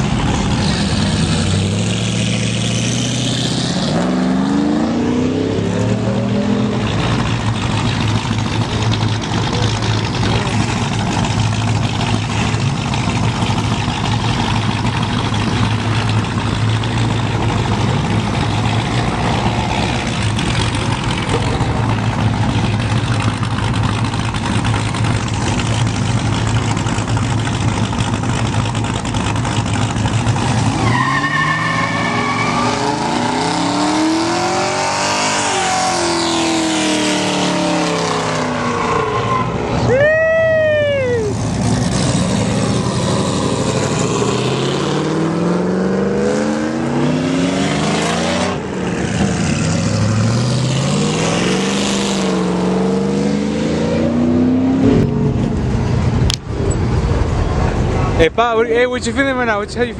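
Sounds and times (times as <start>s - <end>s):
car engines running: 0.0s - 59.9s
engines revving: 0.0s - 59.9s.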